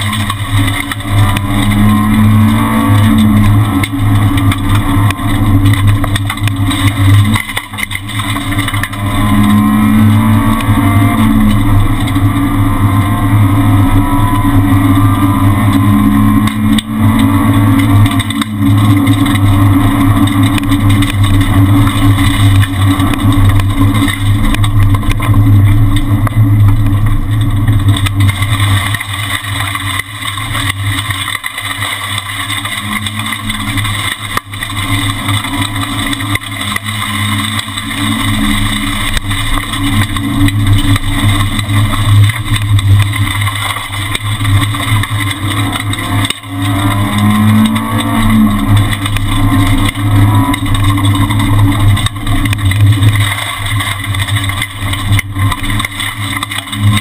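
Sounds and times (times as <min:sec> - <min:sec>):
car engine revving high: 0:00.0 - 0:56.2.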